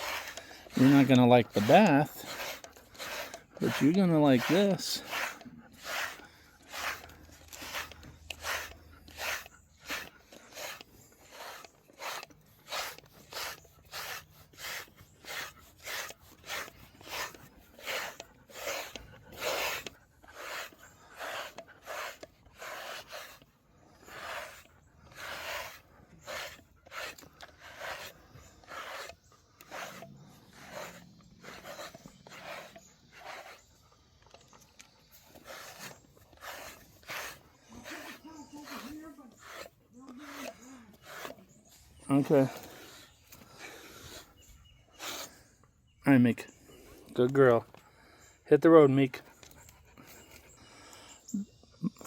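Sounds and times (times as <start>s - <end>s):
brush rasping through dog fur: 0.0s - 52.0s.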